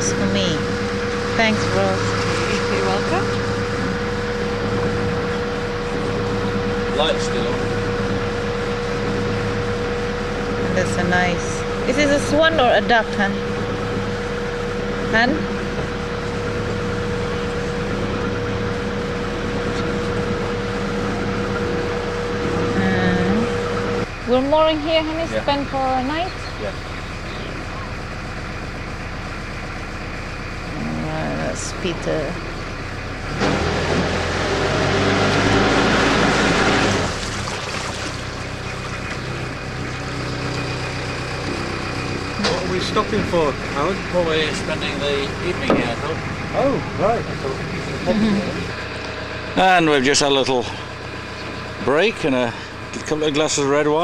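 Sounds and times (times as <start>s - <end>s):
constant tone: 0.0s - 33.5s, 37.0s - 54.0s
boat engine chugging: 0.0s - 54.0s.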